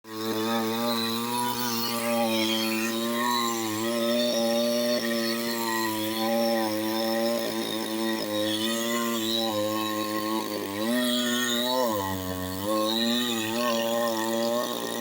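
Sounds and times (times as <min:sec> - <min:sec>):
chainsaw engine running: 0:00.1 - 0:15.0.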